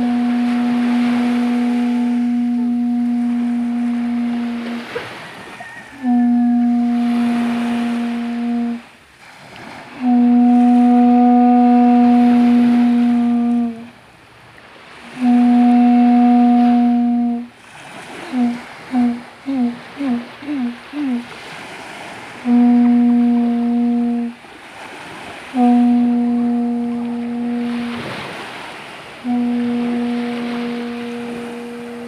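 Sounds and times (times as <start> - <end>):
conch shell trumpet blasts: 0.0 - 8.9, 9.9 - 13.9, 15.0 - 32.0
gentle surf washing: 0.0 - 32.0.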